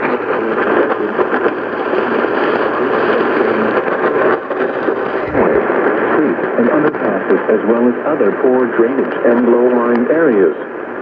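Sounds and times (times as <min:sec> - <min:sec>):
synthesized voice speaking: 0:00.0 - 0:10.6
radio static hiss: 0:00.0 - 0:11.0.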